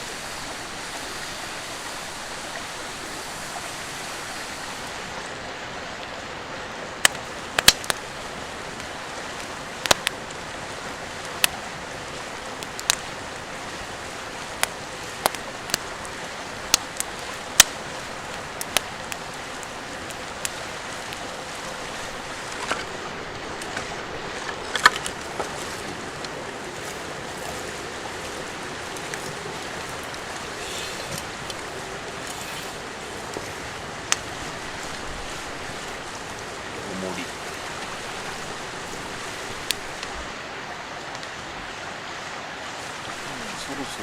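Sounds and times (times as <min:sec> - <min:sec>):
river rushing: 0:00.0 - 0:44.0.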